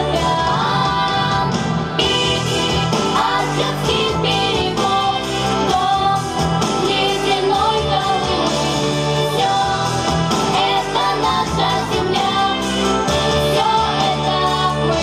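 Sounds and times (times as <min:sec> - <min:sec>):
pop song singing: 0:00.0 - 0:15.0.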